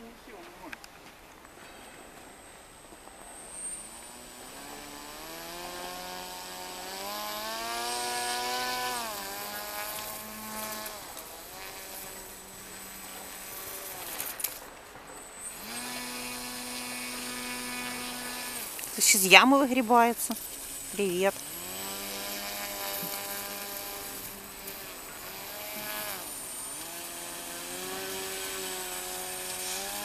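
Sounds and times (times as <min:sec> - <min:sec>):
small electric motor whining: 0:03.3 - 0:30.0.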